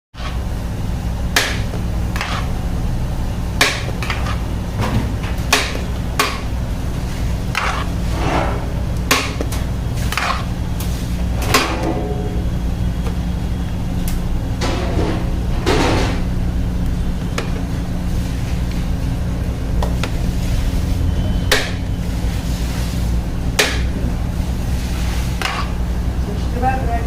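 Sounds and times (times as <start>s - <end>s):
steady low hum: 0.2s - 27.0s.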